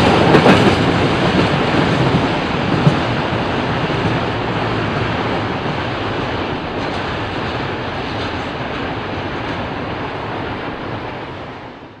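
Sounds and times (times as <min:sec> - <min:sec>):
freight train wagons rumbling: 0:00.0 - 0:11.9.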